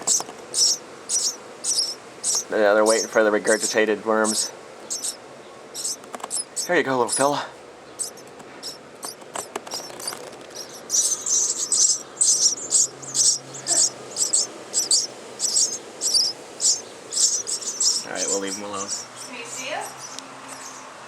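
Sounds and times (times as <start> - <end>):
nestlings chirping: 0.0 - 21.0.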